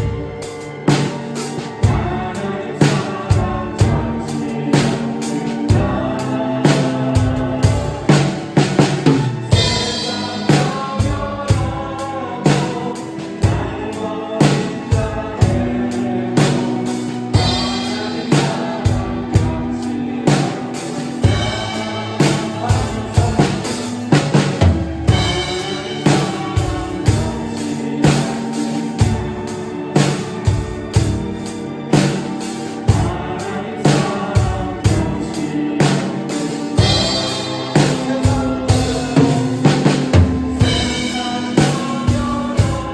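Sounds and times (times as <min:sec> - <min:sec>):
drum kit playing: 0:00.0 - 0:42.9
keyboard and bass notes: 0:00.0 - 0:42.9
person singing: 0:00.0 - 0:42.9
worship song backing track: 0:00.0 - 0:42.9.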